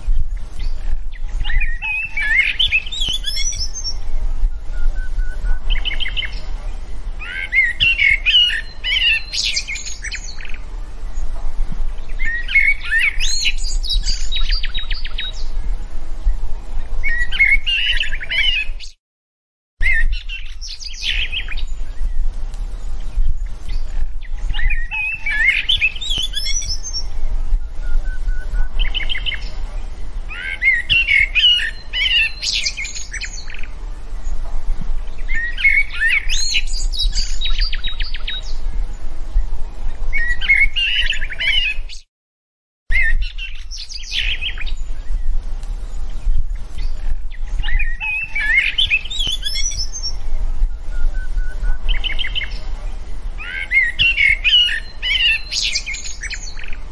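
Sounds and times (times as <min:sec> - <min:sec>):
songbird chirping and warbling: 0:00.0 - 0:19.0, 0:19.8 - 0:42.1, 0:42.9 - 0:56.9.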